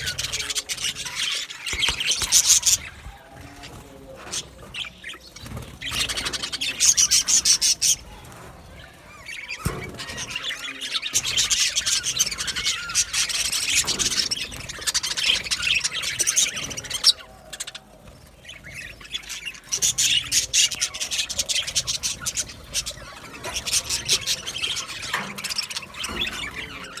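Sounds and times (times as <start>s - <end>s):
budgerigars chirping: 0.0s - 27.0s.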